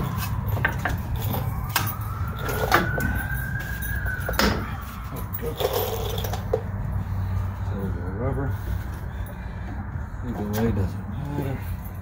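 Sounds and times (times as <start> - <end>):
emergency siren wailing: 0.0 - 10.2.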